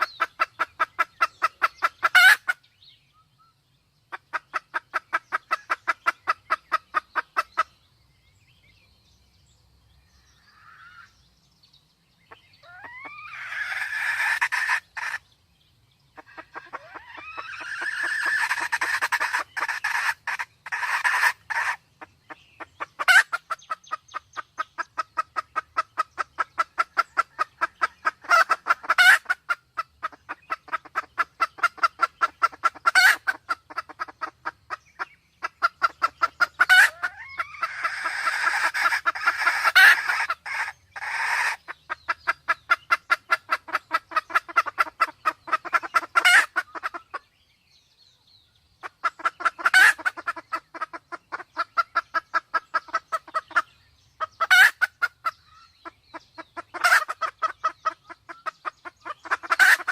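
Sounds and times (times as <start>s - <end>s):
junglefowl clucking: 0.0s - 2.6s, 4.1s - 7.8s, 10.4s - 11.2s, 12.3s - 15.3s, 16.2s - 47.3s, 48.8s - 59.9s.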